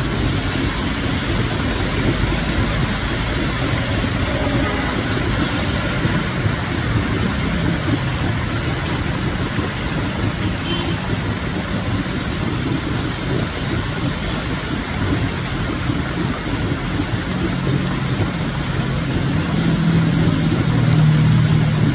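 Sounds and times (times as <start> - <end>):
rain: 0.0 - 21.9
water gushing from drain: 0.0 - 21.9.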